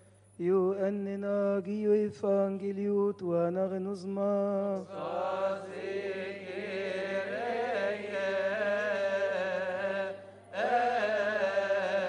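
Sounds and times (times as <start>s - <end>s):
liturgical chant: 0.4s - 12.0s.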